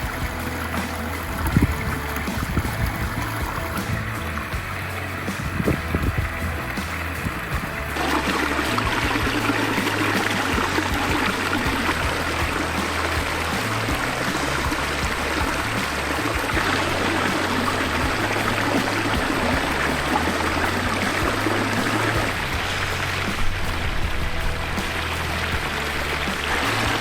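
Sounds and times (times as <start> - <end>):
background music with bass: 0.0 - 27.0
water running down waterfall: 0.0 - 27.0.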